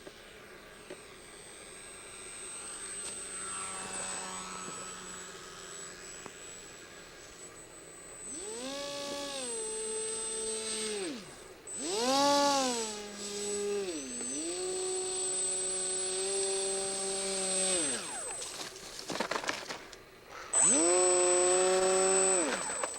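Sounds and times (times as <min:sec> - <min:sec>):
model plane electric motor whining: 0:00.0 - 0:19.5, 0:20.3 - 0:22.9.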